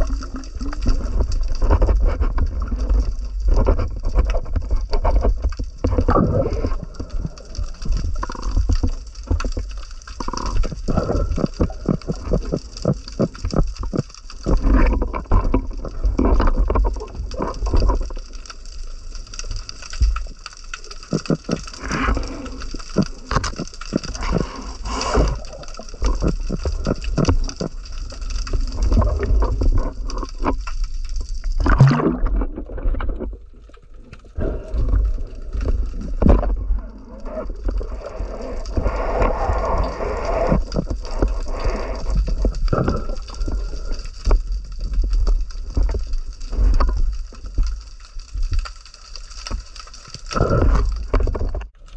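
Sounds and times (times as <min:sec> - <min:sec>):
water sloshing and gurgling: 0:00.0 - 0:51.9.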